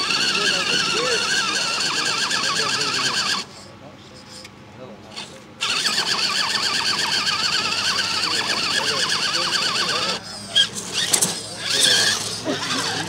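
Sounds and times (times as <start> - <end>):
electric motor whining: 0.0 - 3.6, 5.2 - 13.0.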